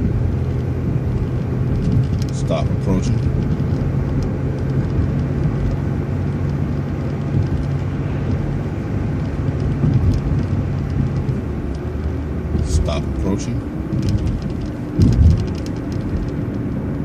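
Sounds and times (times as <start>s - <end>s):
bus engine hum: 0.0s - 17.0s
road and tyre noise: 0.0s - 17.0s.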